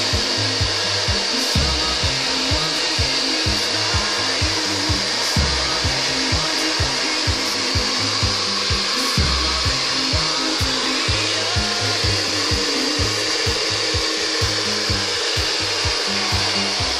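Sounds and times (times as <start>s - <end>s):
background music with low beat: 0.0s - 16.9s
hair dryer blowing: 0.0s - 16.9s.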